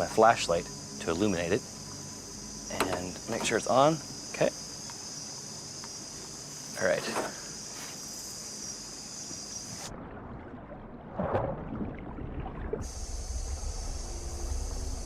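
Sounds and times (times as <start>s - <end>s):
low rumble of water and wind: 0.0s - 7.7s, 8.6s - 15.0s
crickets trilling: 0.0s - 9.9s, 12.7s - 15.0s.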